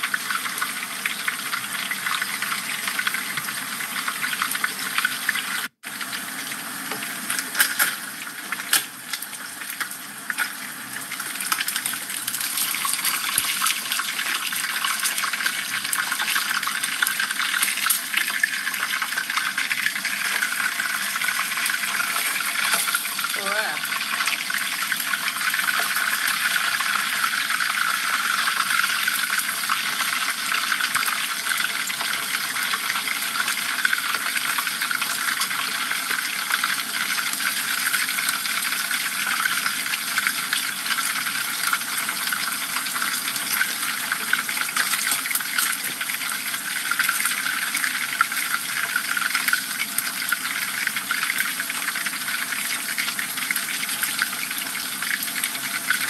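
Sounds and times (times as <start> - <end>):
fish deep-frying in sizzling oil: 0.0 - 56.0.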